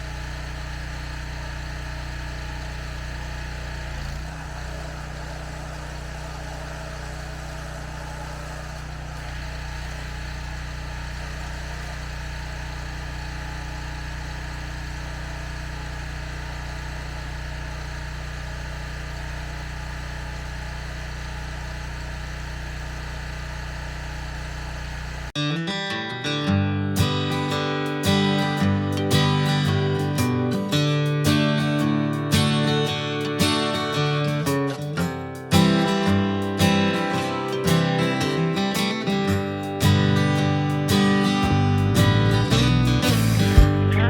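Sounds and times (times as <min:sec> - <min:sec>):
pressure washer running: 0:00.0 - 0:25.3, 0:27.0 - 0:44.0.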